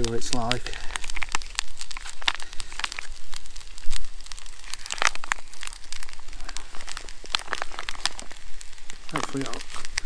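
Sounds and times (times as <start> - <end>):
plastic pouch crinkling: 0.0 - 10.0
sharp clicks and crackles: 0.0 - 10.0.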